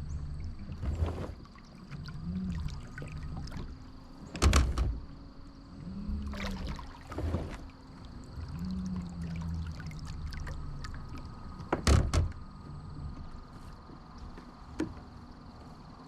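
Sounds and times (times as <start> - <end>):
water against hull: 0.0 - 16.0.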